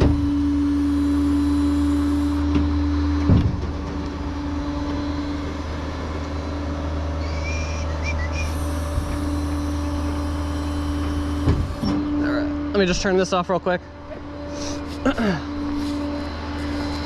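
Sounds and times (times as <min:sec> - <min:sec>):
steady hum: 0:00.0 - 0:17.0
vehicle engine and road noise: 0:00.0 - 0:17.0.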